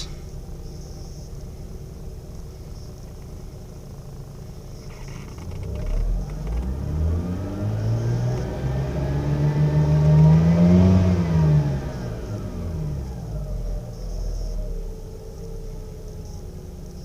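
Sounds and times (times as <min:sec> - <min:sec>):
rotary car engine revving: 0:00.0 - 0:17.0.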